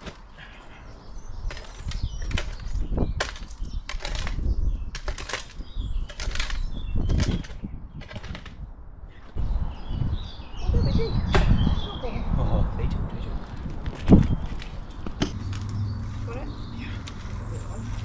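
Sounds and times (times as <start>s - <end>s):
birds singing faintly: 0.0s - 18.0s.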